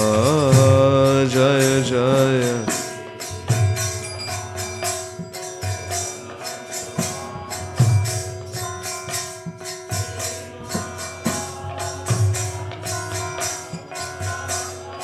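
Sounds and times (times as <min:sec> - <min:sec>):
metal percussion jingling: 0:00.0 - 0:15.0.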